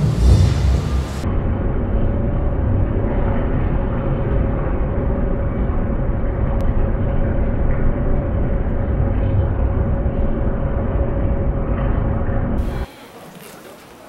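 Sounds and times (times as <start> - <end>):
city ambience rumble: 0.0 - 12.9
mid-pitched hum: 0.0 - 14.0.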